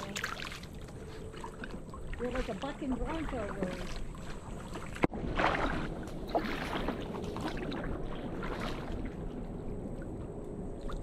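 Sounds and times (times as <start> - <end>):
kayak paddle splashing in water: 0.0 - 9.3
low hiss of moving water: 0.0 - 11.0.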